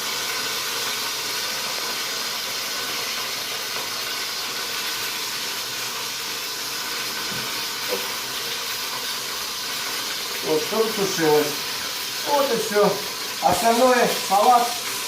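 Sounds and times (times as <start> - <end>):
chicken frying in a pan: 0.0 - 15.0.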